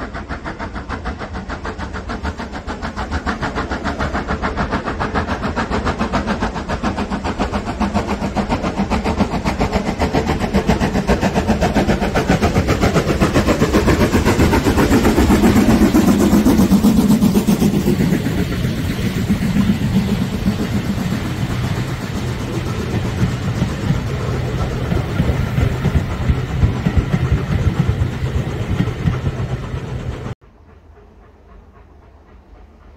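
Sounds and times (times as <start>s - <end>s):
steam locomotive exhaust beating: 0.0s - 32.9s
train carriages rolling past: 0.0s - 32.9s.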